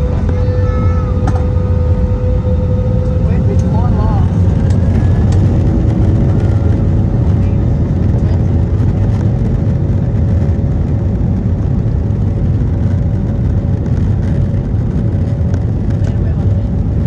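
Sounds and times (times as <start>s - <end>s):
aircraft engine and airflow roar: 0.0s - 17.0s.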